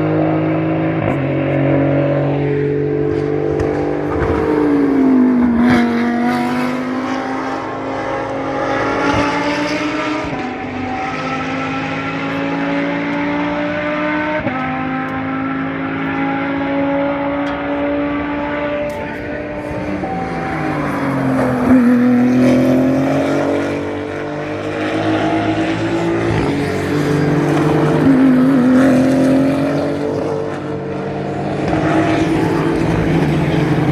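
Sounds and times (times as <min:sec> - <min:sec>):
race car engines: 0:00.0 - 0:33.9.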